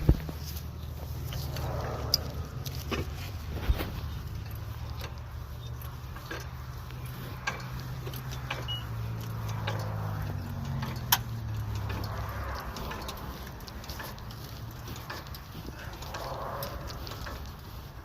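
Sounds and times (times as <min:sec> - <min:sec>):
low motor hum: 0:00.0 - 0:18.0
sharp clicks and knocks: 0:00.0 - 0:18.0.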